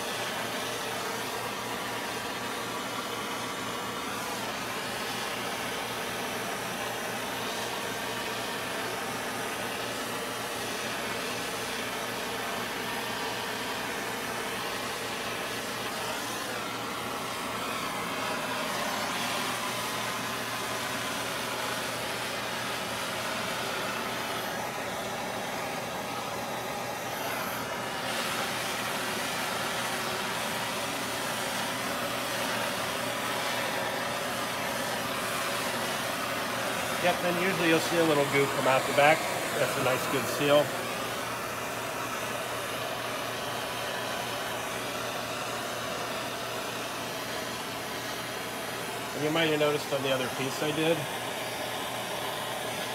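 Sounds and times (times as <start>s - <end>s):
gas torch hissing: 0.0s - 52.9s.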